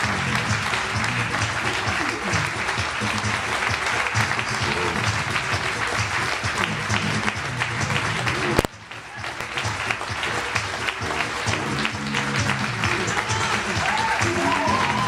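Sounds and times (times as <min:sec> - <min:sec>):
audience applauding: 0:00.0 - 0:15.0
background music: 0:00.0 - 0:15.0.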